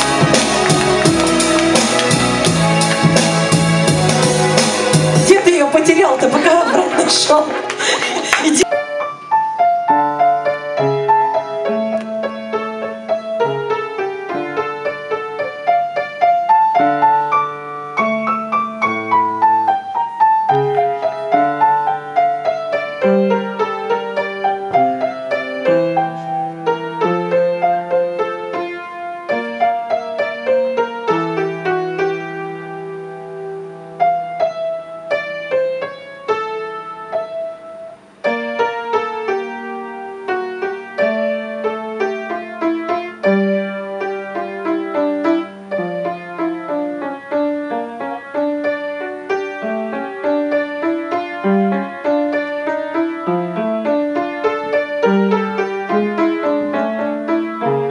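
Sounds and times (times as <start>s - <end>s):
solo piano piece: 0.0s - 57.9s.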